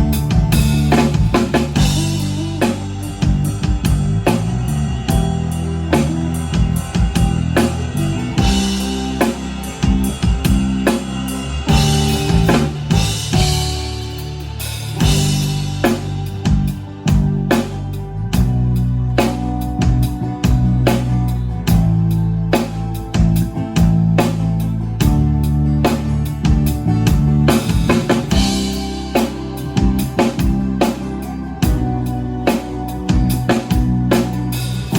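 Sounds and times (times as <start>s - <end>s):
drum kit beat: 0.0s - 34.9s
instrumental band playing: 0.0s - 34.9s
low bass notes: 0.0s - 34.9s.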